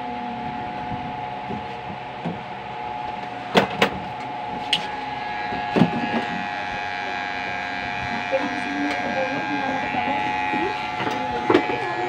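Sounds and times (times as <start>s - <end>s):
electric hair clipper buzzing: 0.8s - 12.0s.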